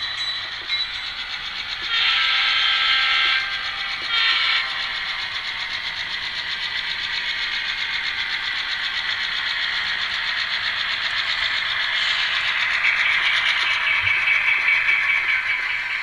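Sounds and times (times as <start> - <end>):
model locomotive diesel engine throb: 0.0 - 16.0.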